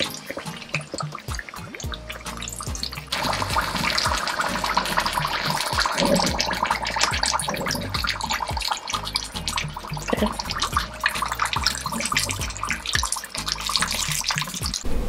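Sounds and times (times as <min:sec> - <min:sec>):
food frying in hot oil: 0:00.0 - 0:14.8.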